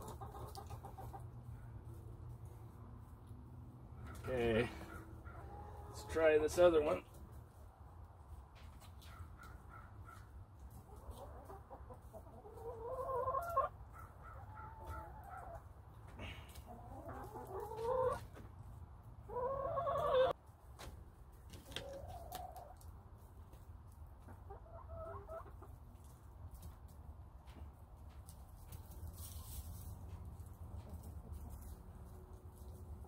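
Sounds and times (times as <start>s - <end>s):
chickens calling: 0.0s - 33.0s.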